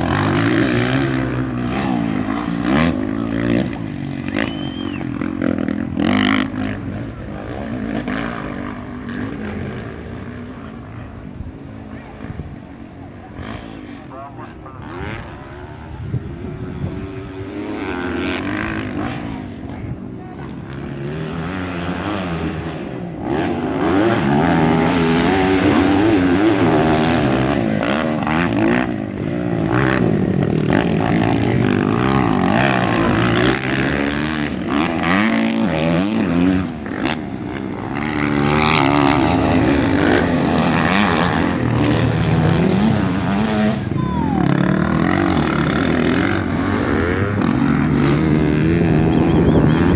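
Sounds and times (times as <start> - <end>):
racing motorcycle engines revving: 0.0 - 49.9.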